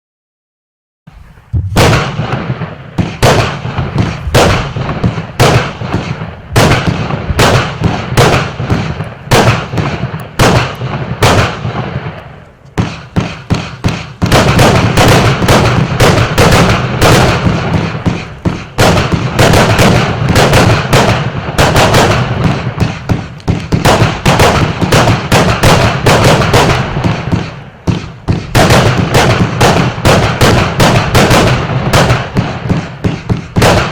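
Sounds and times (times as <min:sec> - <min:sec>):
fireworks shots and bursts: 0:01.1 - 0:33.9.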